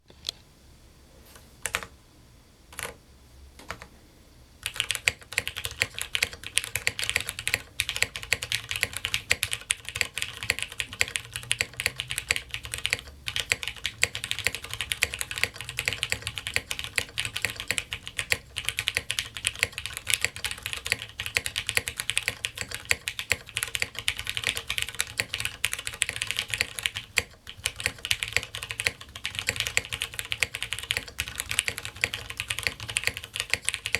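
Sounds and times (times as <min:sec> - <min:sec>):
mechanical keyboard typing: 0:01.6 - 0:01.9, 0:02.7 - 0:03.0, 0:03.6 - 0:03.9, 0:04.6 - 0:33.9.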